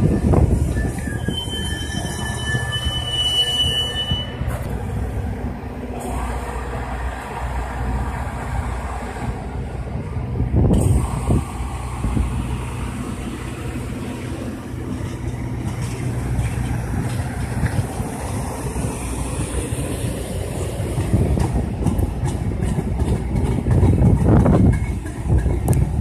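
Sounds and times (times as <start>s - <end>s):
train wheels rumbling on rail: 0.0s - 26.0s
wheels clicking on rail: 0.0s - 26.0s.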